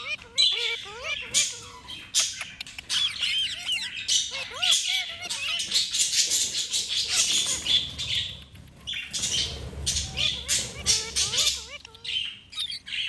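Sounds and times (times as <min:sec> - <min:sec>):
parrot chirping and squawking: 0:00.0 - 0:13.0.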